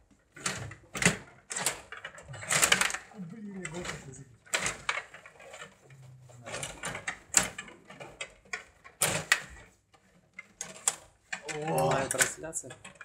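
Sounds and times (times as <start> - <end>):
plastic players and puck clacking: 0.0 - 13.0
table hockey rods pushed and twisted: 0.1 - 13.0.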